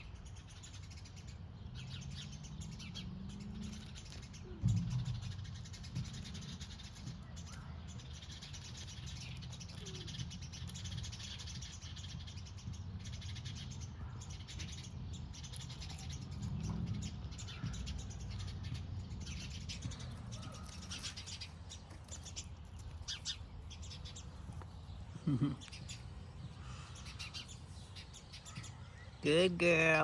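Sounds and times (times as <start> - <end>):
small birds chirping alarm calls: 0.0 - 30.0.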